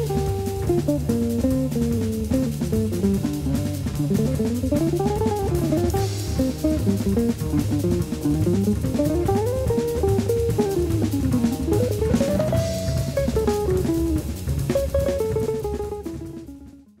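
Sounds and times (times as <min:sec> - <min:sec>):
music with drum beat and melody: 0:00.0 - 0:17.0.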